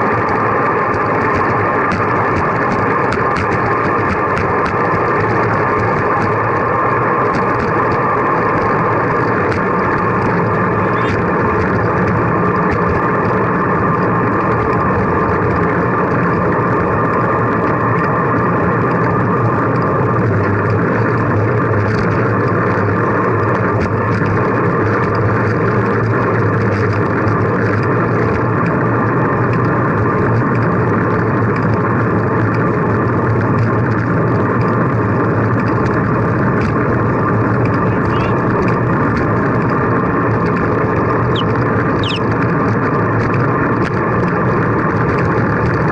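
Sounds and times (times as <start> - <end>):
road noise: 0.0 - 45.9.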